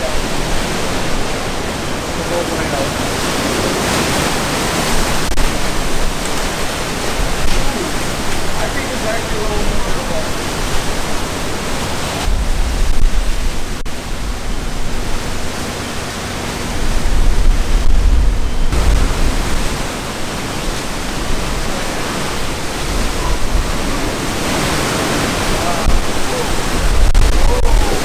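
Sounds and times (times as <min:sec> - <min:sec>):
wind and heavy rain rushing: 0:00.0 - 0:28.0
wind buffeting microphone: 0:00.0 - 0:28.0.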